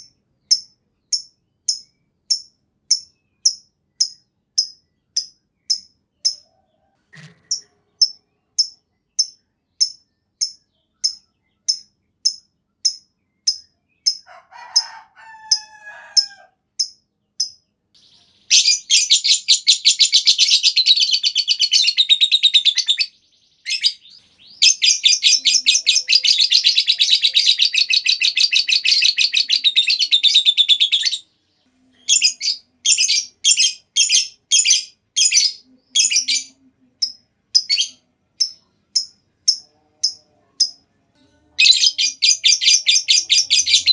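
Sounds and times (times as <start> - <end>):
lovebird chirping and trilling: 0.0 - 6.5, 7.2 - 31.2, 32.0 - 40.8, 41.6 - 43.9.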